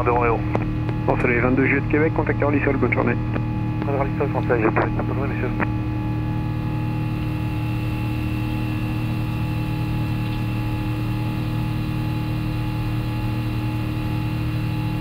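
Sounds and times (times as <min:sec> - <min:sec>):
aircraft cabin drone: 0:00.0 - 0:15.0.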